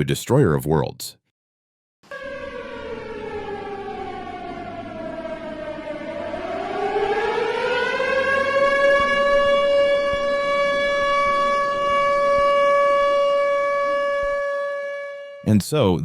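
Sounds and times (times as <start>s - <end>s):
siren winding up: 2.1s - 15.5s.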